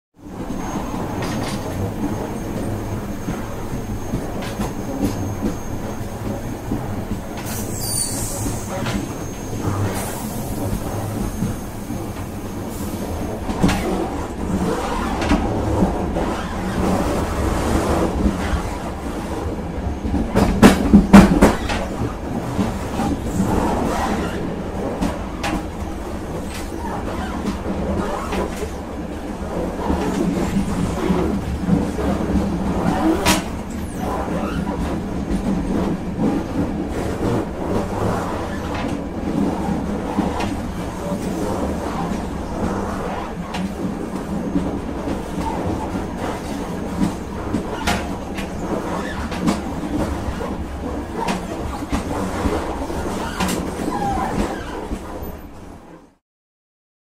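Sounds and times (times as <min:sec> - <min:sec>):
train rumbling on rails: 0:00.2 - 0:56.2.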